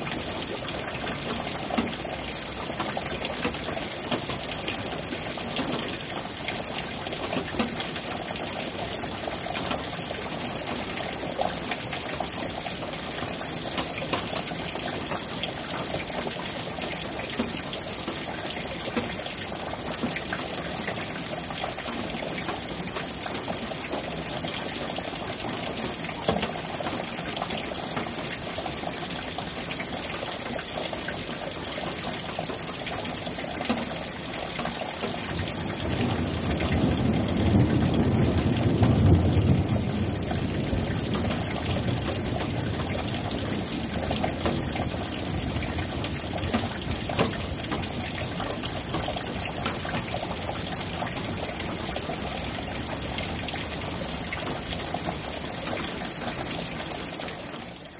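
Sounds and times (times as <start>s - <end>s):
heavy rain falling: 0.0s - 57.9s
water dripping and splashing: 0.0s - 57.9s.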